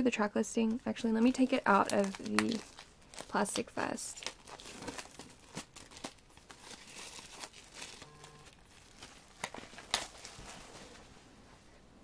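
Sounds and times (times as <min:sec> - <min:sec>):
plastic shrink-wrap tearing: 0:01.2 - 0:11.0.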